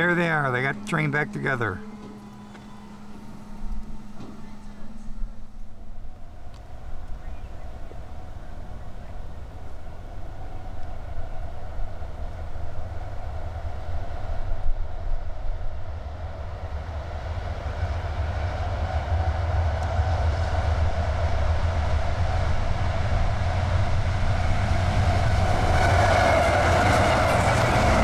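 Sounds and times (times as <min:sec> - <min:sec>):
locomotive engine rumble: 0:00.0 - 0:28.0.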